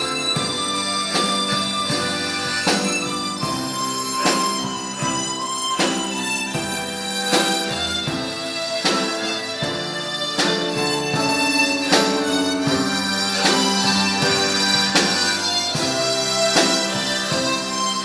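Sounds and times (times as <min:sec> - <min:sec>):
harmonica ensemble playing ballad: 0:00.0 - 0:18.0.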